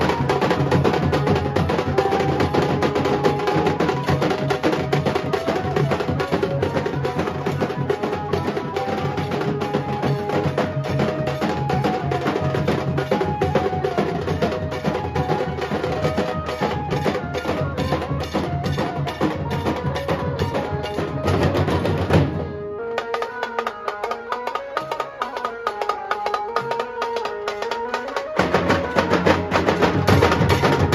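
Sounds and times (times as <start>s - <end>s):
dhol drums fast rhythm: 0.0s - 30.9s
held melody line: 0.0s - 30.9s.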